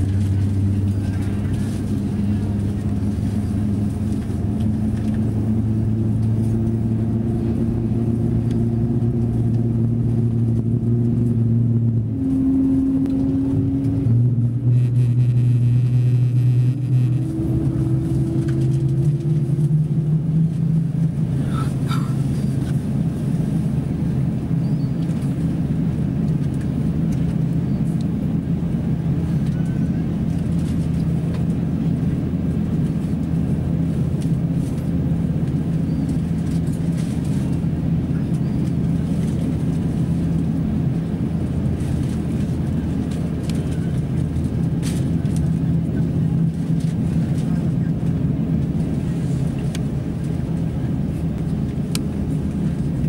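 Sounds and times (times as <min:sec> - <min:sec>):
jet engines rumbling in cabin: 0:00.0 - 0:53.0.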